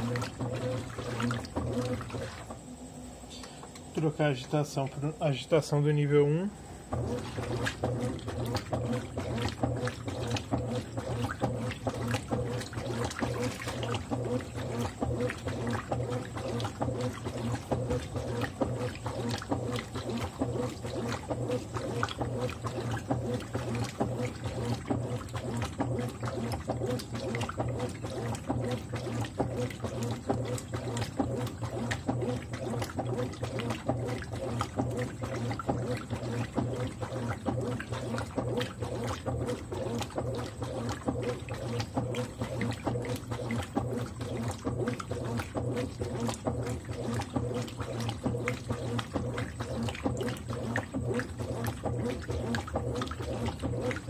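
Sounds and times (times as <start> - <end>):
water and fabric sloshing: 0.0 - 2.7, 6.8 - 54.0
washing machine motor hum: 0.0 - 54.0.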